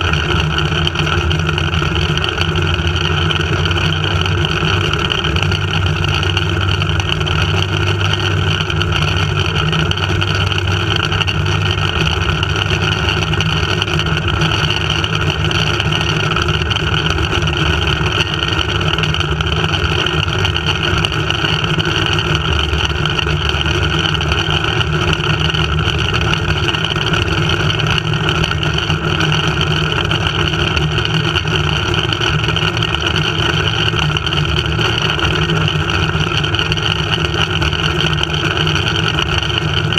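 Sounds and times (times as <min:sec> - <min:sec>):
trolley whirring along cable: 0:00.0 - 0:39.9.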